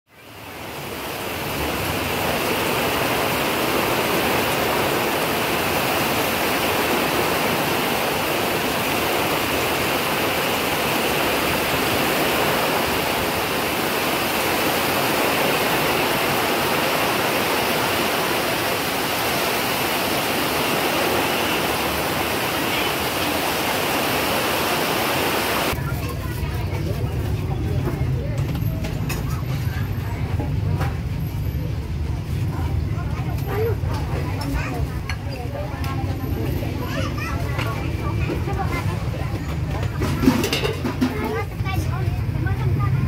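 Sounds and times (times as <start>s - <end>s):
heavy rain pouring: 0.1s - 25.9s, 32.7s - 43.0s.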